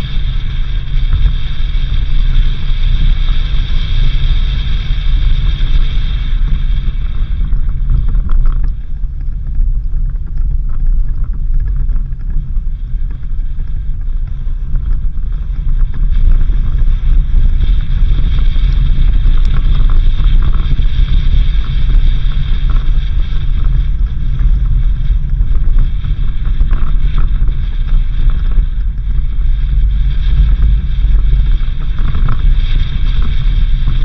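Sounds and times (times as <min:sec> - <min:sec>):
vehicle engine and tyres rumbling: 0:00.0 - 0:34.0
wind noise on microphone: 0:00.0 - 0:34.0.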